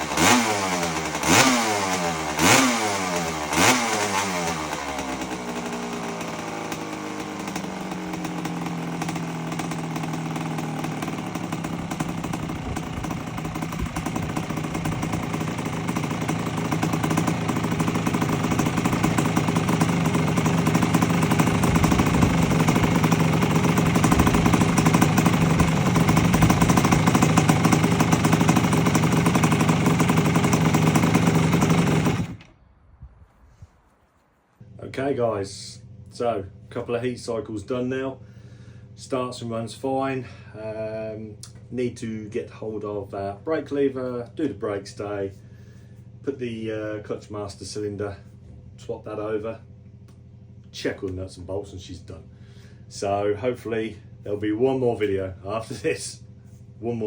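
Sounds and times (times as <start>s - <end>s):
two-stroke engine blipping and idling: 0.0s - 32.6s, 34.6s - 57.0s.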